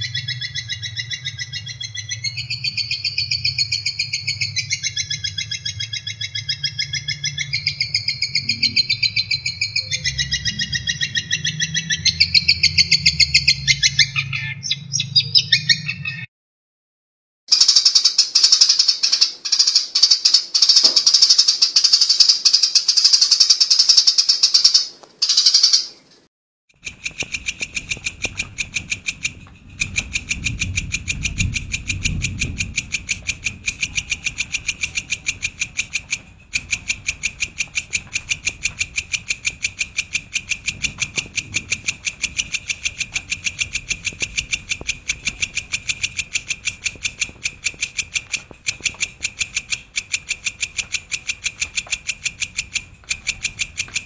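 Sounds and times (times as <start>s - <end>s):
sharp repeated bird chips: 0.0s - 16.2s, 17.5s - 54.0s
high bird trill: 0.0s - 16.3s, 17.5s - 26.1s, 26.8s - 54.0s.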